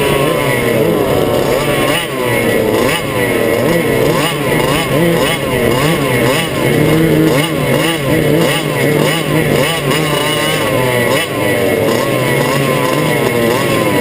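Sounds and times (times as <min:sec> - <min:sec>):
kart engine revving: 0:00.0 - 0:14.0.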